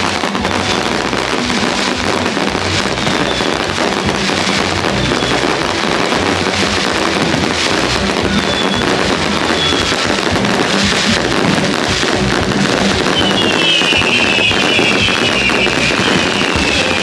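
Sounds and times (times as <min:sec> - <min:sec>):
fireworks crackling: 0:00.0 - 0:17.0
firework whistles falling in pitch: 0:00.6 - 0:12.1, 0:12.7 - 0:17.0.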